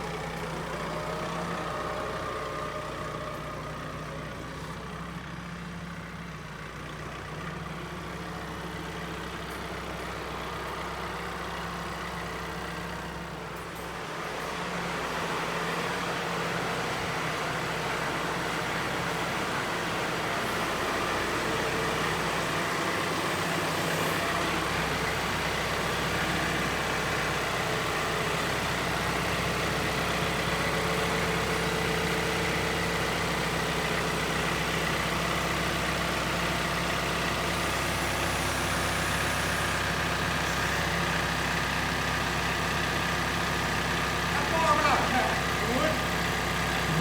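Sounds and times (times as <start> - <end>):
sawmill engine running: 0.0 - 47.0.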